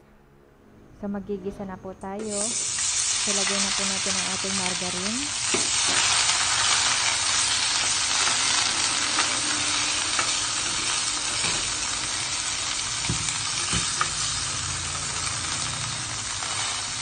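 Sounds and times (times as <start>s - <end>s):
margarine sizzling in a pan: 2.2s - 17.0s.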